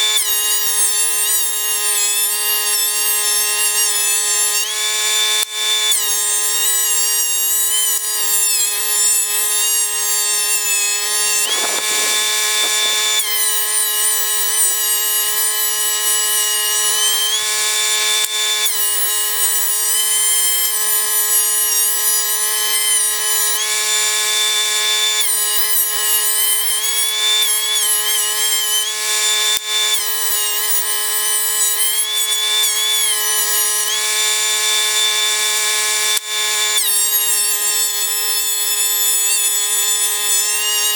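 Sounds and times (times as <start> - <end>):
thickness planer whining: 0.0 - 40.9.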